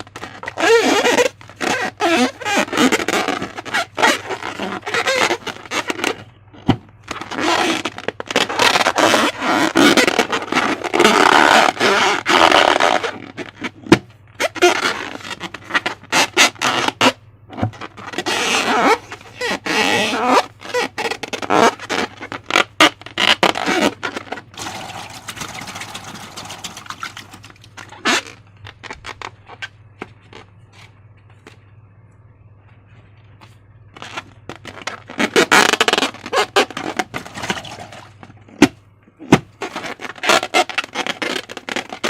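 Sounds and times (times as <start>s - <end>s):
slime squishing by hand: 0.0s - 31.7s, 33.2s - 42.0s.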